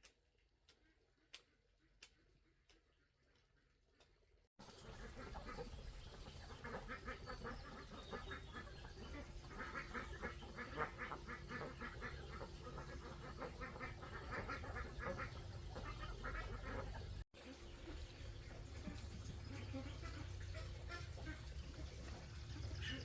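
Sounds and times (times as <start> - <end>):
ducks quacking: 4.0 - 23.0.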